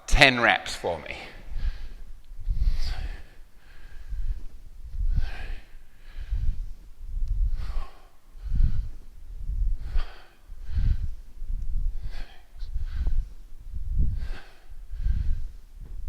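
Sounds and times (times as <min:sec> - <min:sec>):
man breathing hard: 0:01.2 - 0:16.0.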